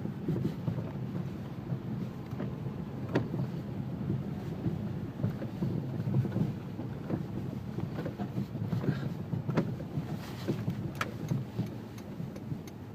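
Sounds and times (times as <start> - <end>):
car engine and tyres rumbling: 0.0 - 12.9.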